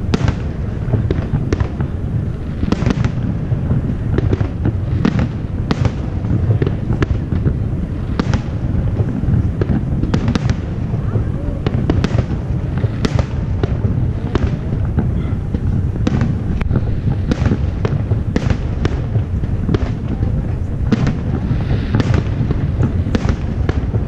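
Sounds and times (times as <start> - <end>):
firework shells booming: 0.0 - 24.0
low rumble of explosions: 0.0 - 24.0.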